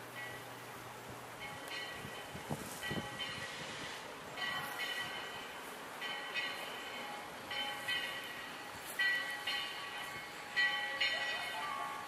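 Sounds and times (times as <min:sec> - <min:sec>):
railroad crossing bell ringing: 0:00.0 - 0:12.0.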